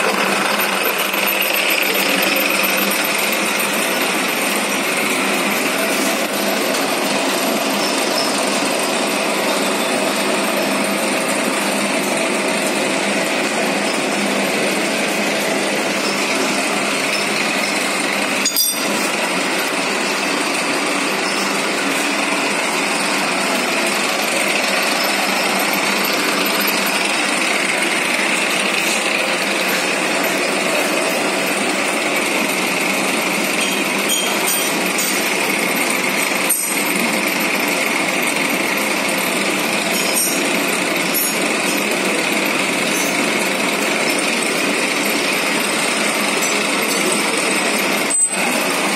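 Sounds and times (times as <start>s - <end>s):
milling machine running: 0.0s - 48.9s.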